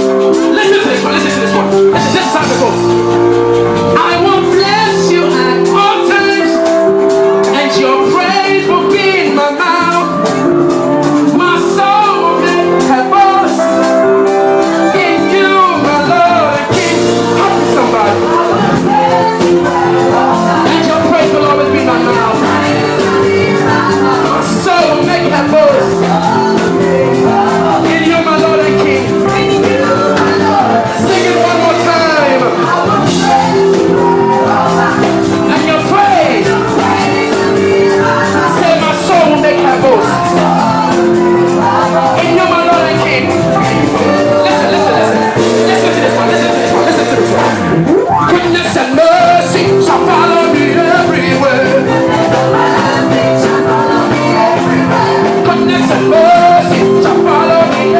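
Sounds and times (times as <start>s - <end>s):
gospel band music with singing: 0.0s - 57.9s
steady drum beat: 0.0s - 57.9s.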